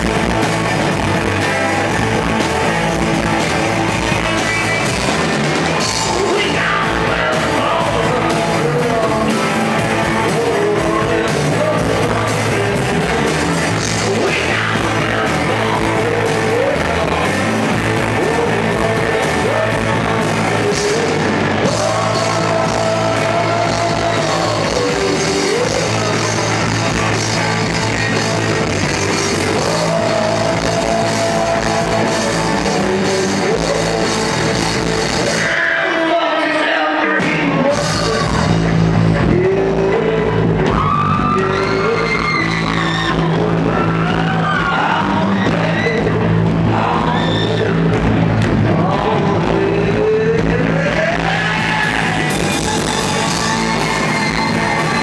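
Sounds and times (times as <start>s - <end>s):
rock band playing: 0.0s - 55.0s
male singer holding long notes: 5.8s - 28.3s, 28.9s - 34.5s, 35.2s - 48.0s, 48.6s - 55.0s.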